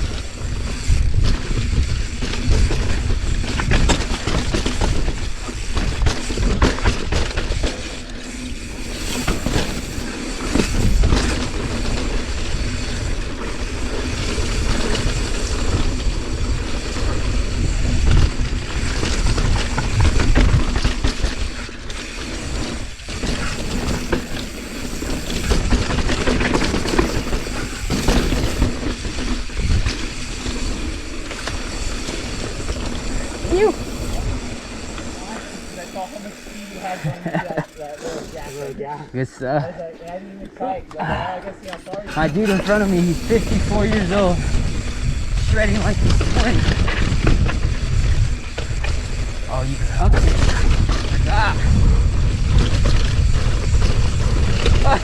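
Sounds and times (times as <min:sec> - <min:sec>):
wind rumble on microphone: 0:00.0 - 0:36.0, 0:42.1 - 0:55.0
bike chain and frame rattling: 0:00.0 - 0:39.0, 0:41.6 - 0:55.0.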